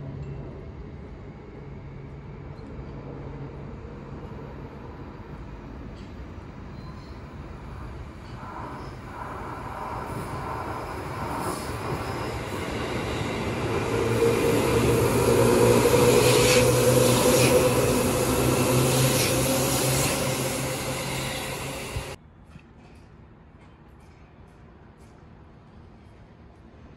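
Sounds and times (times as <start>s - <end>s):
electric train rumble and hum: 0.0s - 22.2s.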